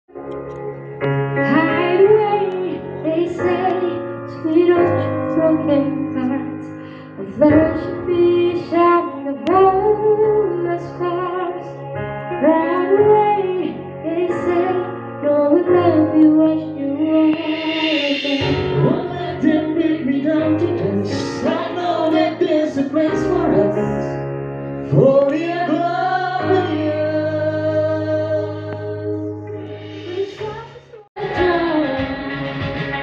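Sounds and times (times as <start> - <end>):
electronic keyboard chords: 0.1 - 33.0
woman singing into a microphone: 1.4 - 23.4, 26.4 - 33.0.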